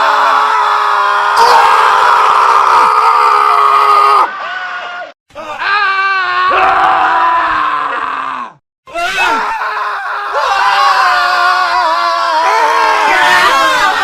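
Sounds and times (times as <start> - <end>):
men screaming: 0.0 - 14.0.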